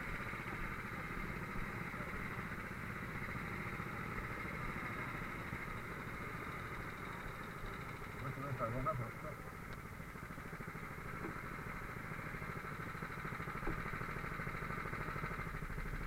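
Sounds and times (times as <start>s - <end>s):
kart engines running steadily: 0.0s - 16.0s.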